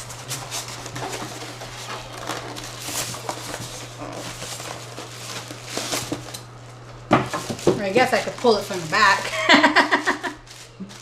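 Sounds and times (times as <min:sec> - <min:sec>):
cardboard and packing rustling: 0:00.0 - 0:11.0.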